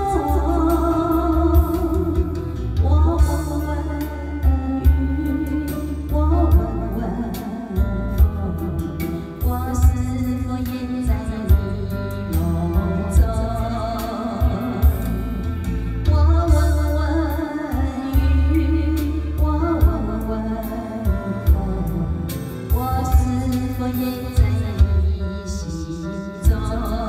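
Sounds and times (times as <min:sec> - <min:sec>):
karaoke backing track: 0:00.0 - 0:27.0
woman singing a ballad: 0:00.0 - 0:27.0.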